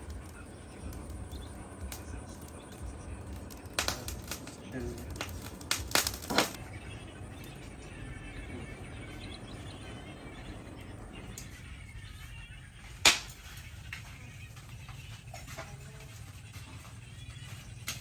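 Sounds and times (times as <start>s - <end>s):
faint bird chirps: 0.0s - 18.0s
steady low hum: 0.0s - 18.0s.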